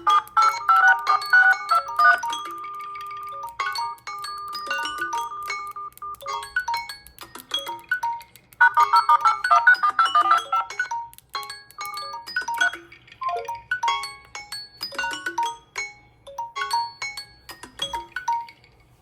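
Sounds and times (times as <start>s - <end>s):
phone ringtone melody: 0.0s - 18.7s.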